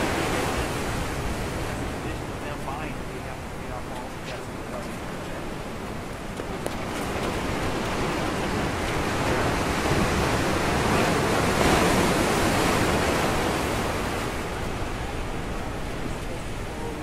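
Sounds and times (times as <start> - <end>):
ocean surf on rocks: 0.0 - 17.0.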